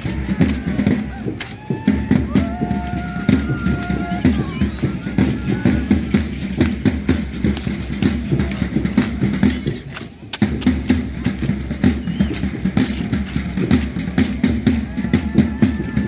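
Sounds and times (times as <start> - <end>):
dancers stamping feet: 0.0 - 16.0.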